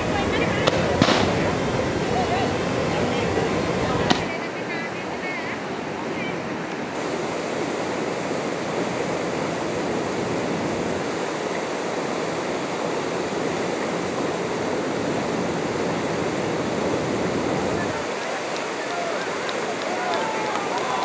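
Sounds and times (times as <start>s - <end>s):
rushing flowing water: 0.0s - 21.0s.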